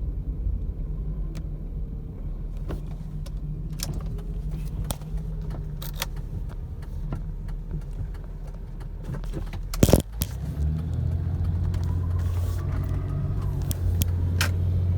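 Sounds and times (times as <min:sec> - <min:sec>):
car humming: 0:00.0 - 0:14.9
sharp clicks: 0:02.6 - 0:14.9.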